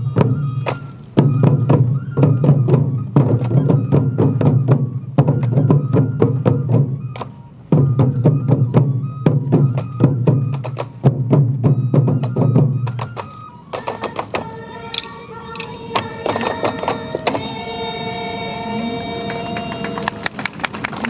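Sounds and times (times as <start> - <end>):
taiko drums beating fast: 0.0 - 20.9.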